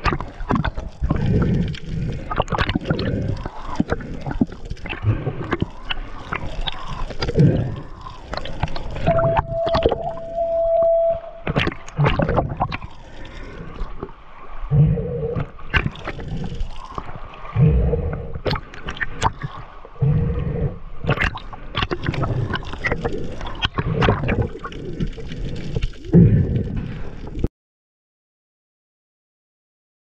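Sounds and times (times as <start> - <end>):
gurgling snorkel breaths: 0.0 - 27.5
water splashes: 0.0 - 27.5.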